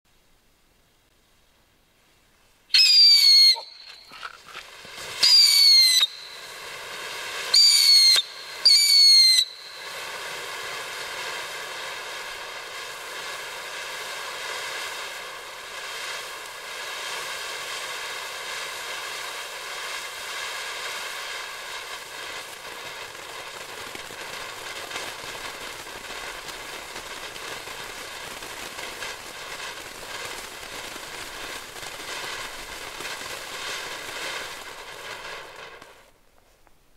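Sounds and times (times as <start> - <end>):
firework fountain hissing: 2.6 - 36.4
firework whistles: 2.7 - 36.2.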